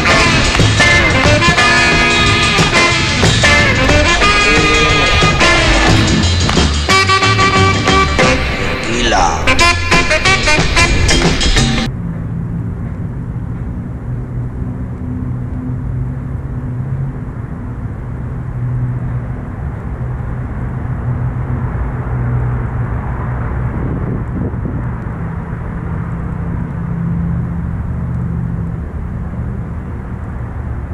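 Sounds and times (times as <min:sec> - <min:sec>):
traffic engine hum: 0:00.0 - 0:30.9
vehicle passing: 0:00.0 - 0:30.9.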